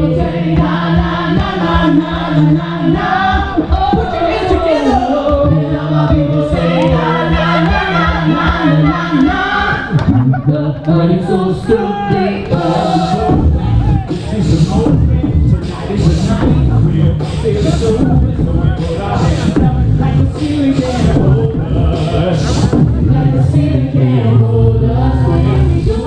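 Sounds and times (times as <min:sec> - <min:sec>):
a cappella group singing in harmony: 0:00.0 - 0:26.0
bass voice holding low notes: 0:00.0 - 0:26.0.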